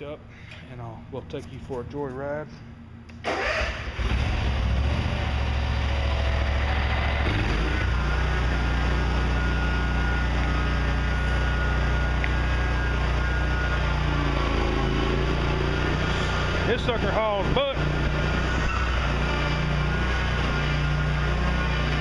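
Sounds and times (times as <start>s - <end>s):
mower engine running: 3.3s - 22.0s.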